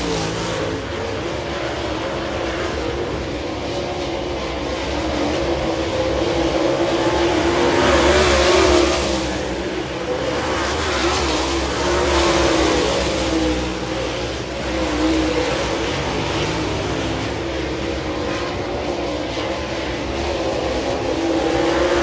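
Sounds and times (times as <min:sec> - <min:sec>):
race car engines: 0:00.0 - 0:22.0.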